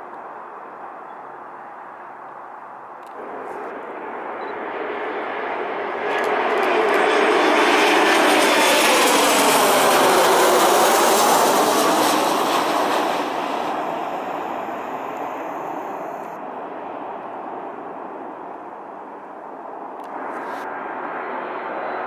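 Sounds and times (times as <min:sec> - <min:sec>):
jet engines passing overhead: 0:00.0 - 0:22.0.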